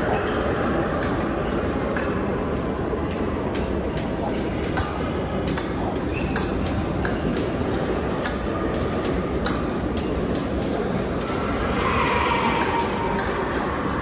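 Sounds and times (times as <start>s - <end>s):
large hall background noise: 0.0s - 14.0s
fencing blades clinking: 0.9s - 13.9s.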